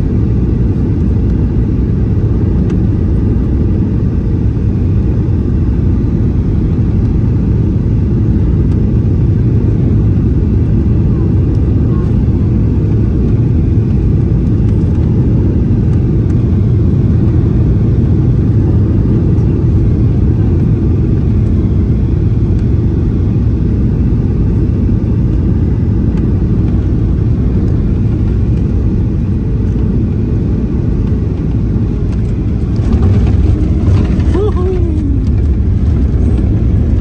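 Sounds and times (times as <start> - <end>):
airplane cabin rumble: 0.0 - 37.0.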